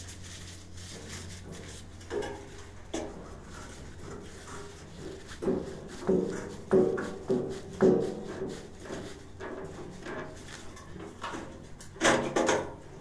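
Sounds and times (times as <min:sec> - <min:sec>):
hands rubbing on valve: 0:00.0 - 0:12.0
metal fittings knocking and scraping: 0:00.8 - 0:13.0.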